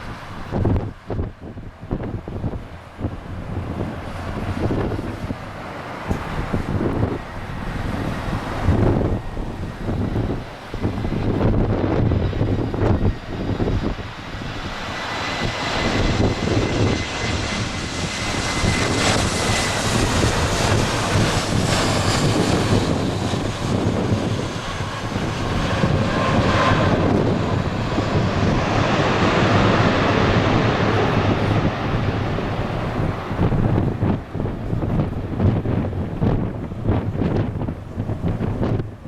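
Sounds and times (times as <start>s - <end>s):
jet engines rushing and whining: 0.0s - 39.0s.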